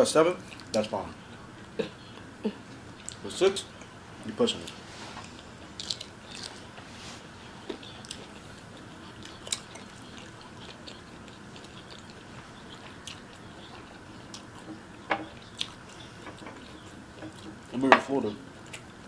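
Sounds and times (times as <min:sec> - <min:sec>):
people chewing food: 0:00.4 - 0:19.0.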